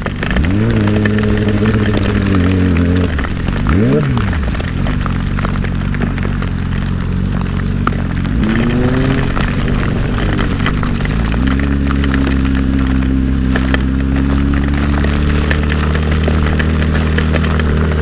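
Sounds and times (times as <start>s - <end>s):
motorcycle engine revving: 0.0s - 18.0s
rain clicking on camera: 0.0s - 18.0s.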